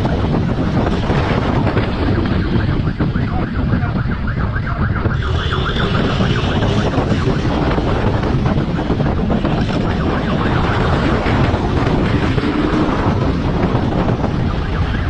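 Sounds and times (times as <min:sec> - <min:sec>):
wind rushing over microphone: 0:00.0 - 0:15.0
siren yelping: 0:01.6 - 0:15.0.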